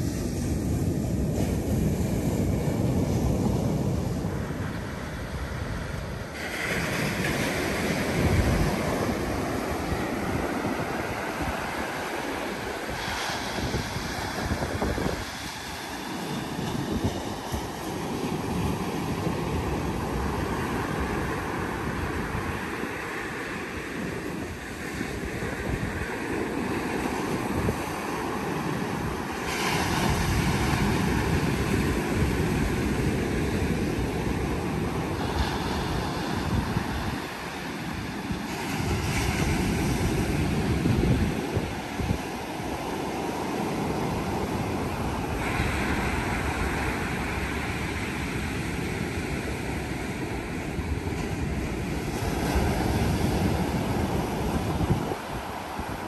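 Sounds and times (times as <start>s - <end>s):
surf breaking on beach: 0.0s - 56.0s
wind buffeting microphone: 0.0s - 56.0s.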